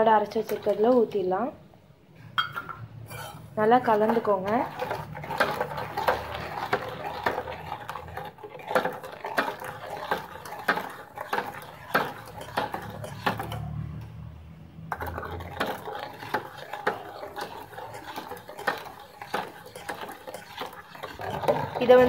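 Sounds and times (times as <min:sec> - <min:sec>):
metal spoon stirring in metal pot: 0:00.0 - 0:01.2, 0:03.1 - 0:13.9, 0:14.9 - 0:22.0.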